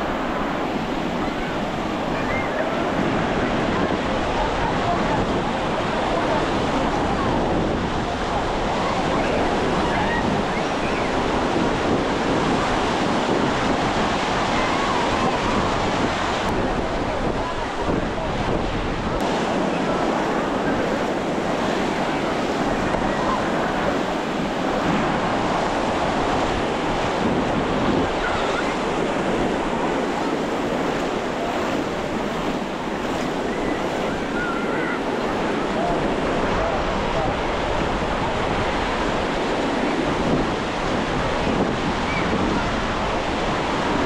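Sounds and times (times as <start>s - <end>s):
ocean surf washing onto beach: 0.0s - 44.0s
wind buffeting microphone: 0.0s - 44.0s.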